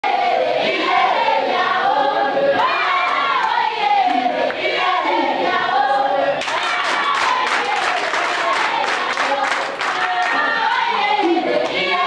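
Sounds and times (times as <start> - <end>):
students singing in chorus: 0.0 - 12.0.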